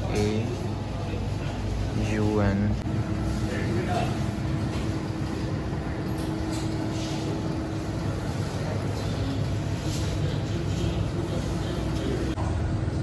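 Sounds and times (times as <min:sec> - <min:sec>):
shop background rumble: 0:00.0 - 0:13.0.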